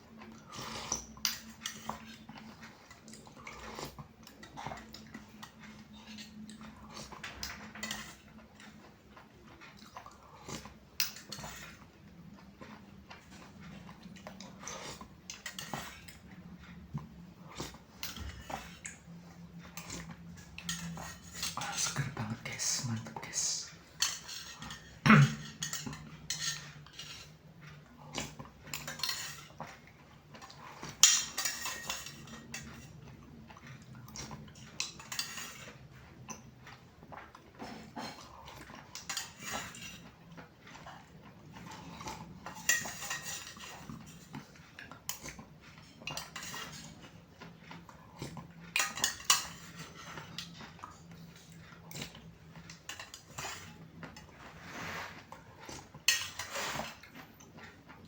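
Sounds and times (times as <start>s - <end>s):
eating sounds: 0.0s - 58.0s.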